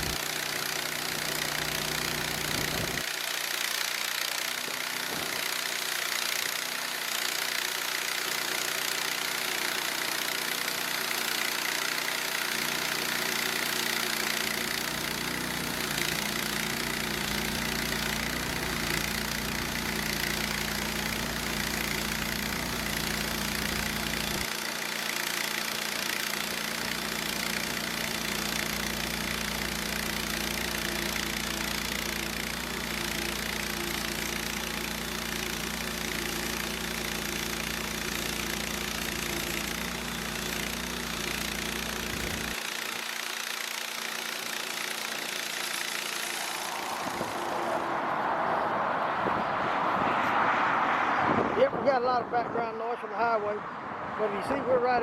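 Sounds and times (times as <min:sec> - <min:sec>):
gasoline engine running: 0:00.0 - 0:49.5.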